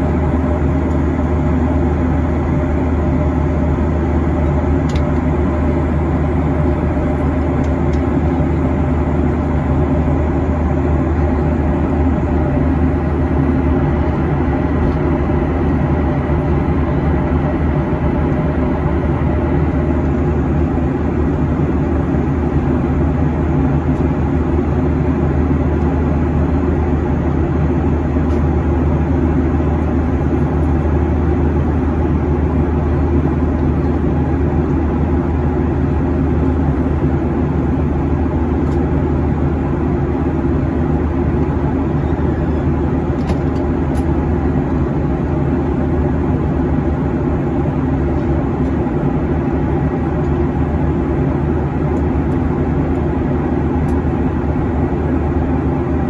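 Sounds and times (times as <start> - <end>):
jet engine hum: 0.0 - 56.0.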